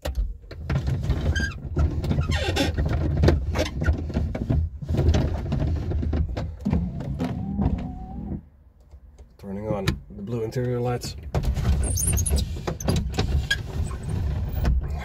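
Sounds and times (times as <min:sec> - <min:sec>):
rustling and clatter: 0:00.1 - 0:09.1, 0:11.1 - 0:15.0.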